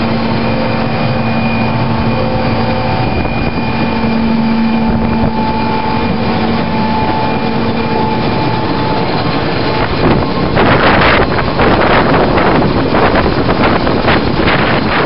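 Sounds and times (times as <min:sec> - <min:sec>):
helicopter rotor noise: 0:00.0 - 0:15.0
steady whine: 0:00.0 - 0:15.0
wind buffeting microphone: 0:00.0 - 0:15.0.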